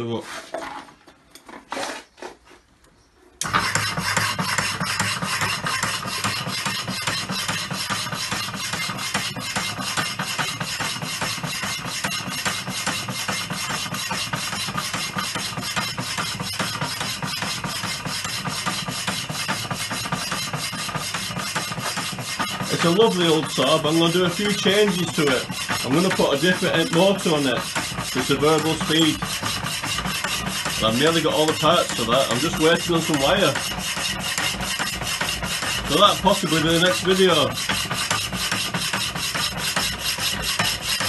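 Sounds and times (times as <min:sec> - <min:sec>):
power hacksaw rasping through steel: 0:03.4 - 0:41.0.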